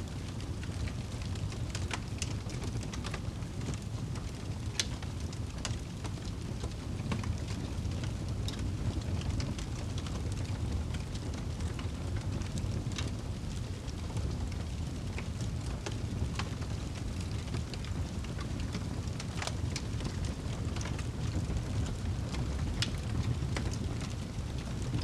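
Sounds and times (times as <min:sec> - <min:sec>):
campfire crackling and popping: 0:00.1 - 0:25.0.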